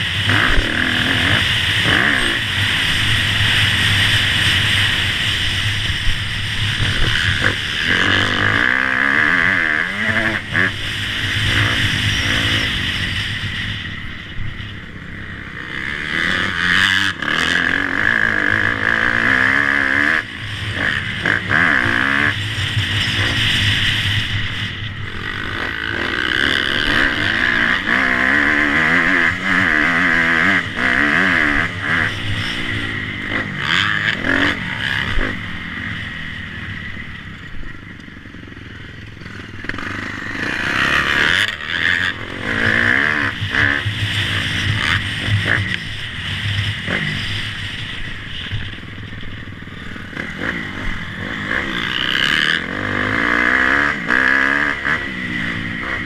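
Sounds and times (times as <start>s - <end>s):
motocross bikes revving hard: 0.0s - 56.0s.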